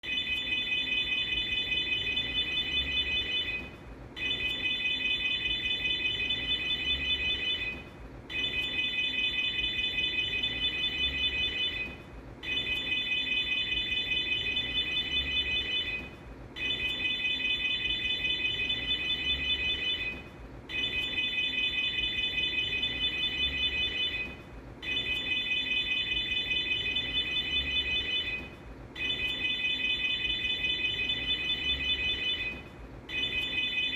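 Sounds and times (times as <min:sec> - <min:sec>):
car alarm siren pulsing: 0:00.0 - 0:33.9.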